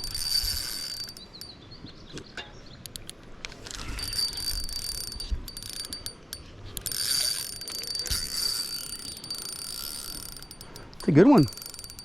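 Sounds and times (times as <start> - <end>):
fishing reel whirring: 0.0 - 1.5, 2.9 - 12.0.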